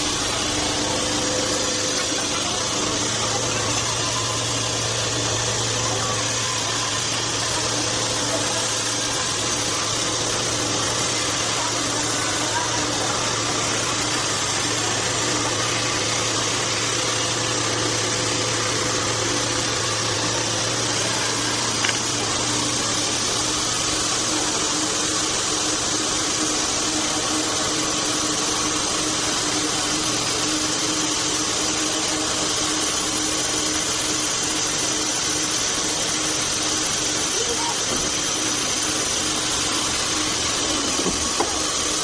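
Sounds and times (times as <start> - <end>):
bandsaw running: 0.0 - 42.0.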